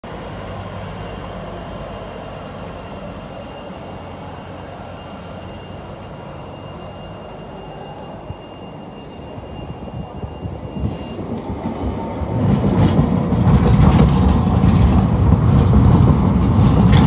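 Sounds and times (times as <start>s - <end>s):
bus engine pulling away: 0.0s - 17.0s
city street noise: 0.0s - 17.0s.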